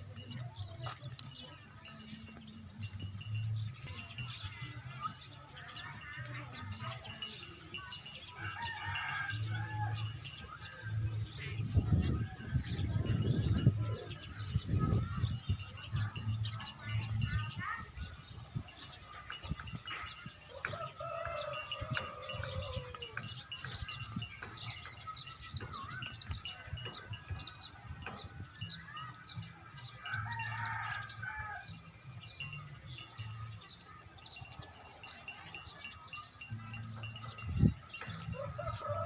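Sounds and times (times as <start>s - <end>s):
high chirping and tinkling: 0.0s - 39.0s.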